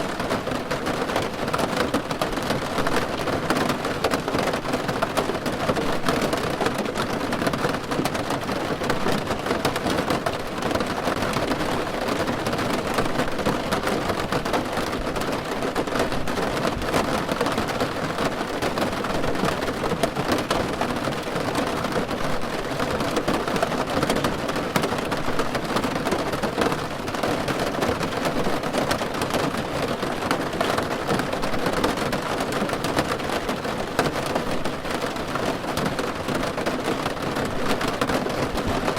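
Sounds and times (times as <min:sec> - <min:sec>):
rain on a car roof: 0:00.0 - 0:38.9.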